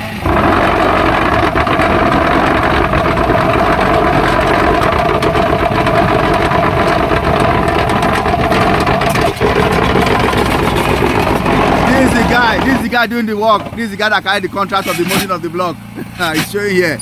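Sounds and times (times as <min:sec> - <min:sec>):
block-molding machine drone: 0:00.0 - 0:17.0.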